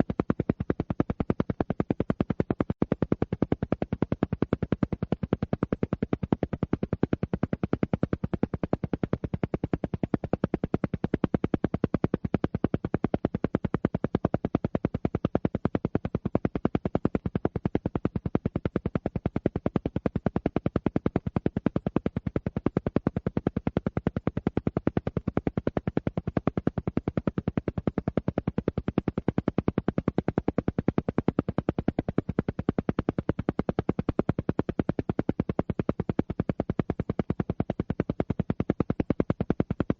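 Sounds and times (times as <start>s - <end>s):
rapidly pulsing tone: 0.0s - 39.9s.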